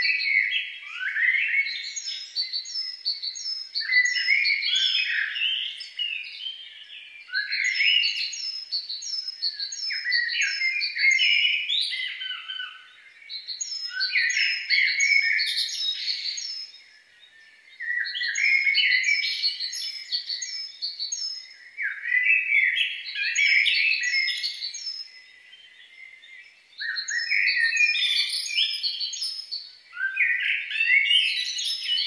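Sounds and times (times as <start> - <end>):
songbird singing: 0.0 - 32.0.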